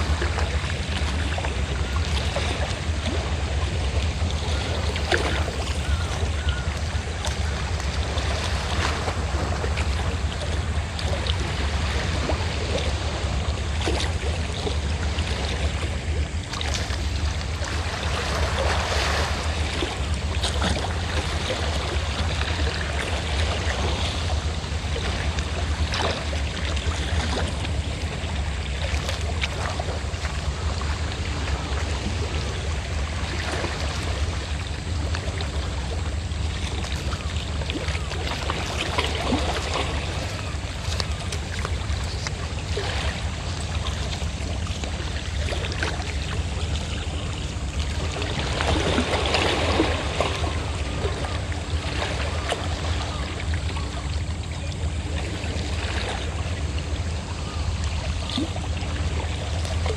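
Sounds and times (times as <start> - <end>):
boat engine droning: 0.0 - 59.9
sea waves washing: 0.0 - 59.9.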